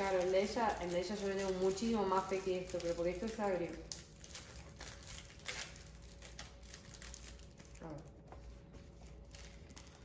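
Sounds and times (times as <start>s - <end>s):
plastic crinkling: 0.0s - 8.3s, 8.9s - 10.0s.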